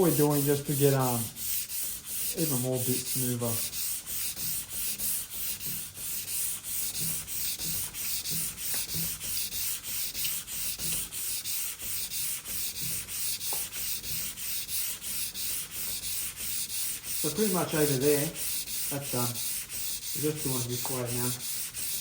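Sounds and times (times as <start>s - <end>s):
sandpaper rubbing on wood: 0.0s - 22.0s.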